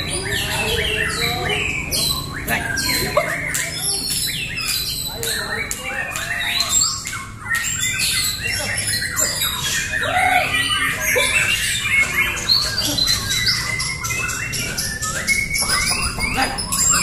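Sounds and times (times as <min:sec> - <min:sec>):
birds chorus of whistles and chirps: 0:00.0 - 0:17.0.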